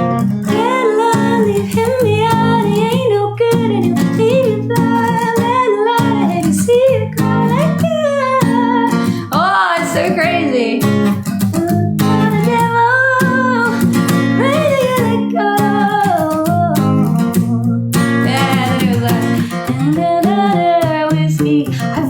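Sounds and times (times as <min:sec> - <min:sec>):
acoustic guitar strummed: 0:00.0 - 0:22.0
woman singing: 0:00.4 - 0:22.0.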